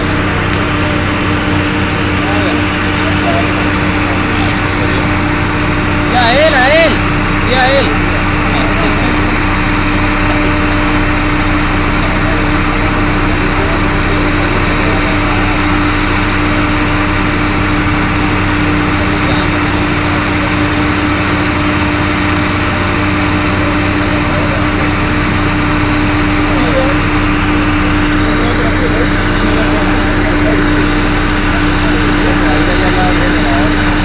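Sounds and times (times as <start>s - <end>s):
drilling rig machinery drone: 0.0s - 34.0s.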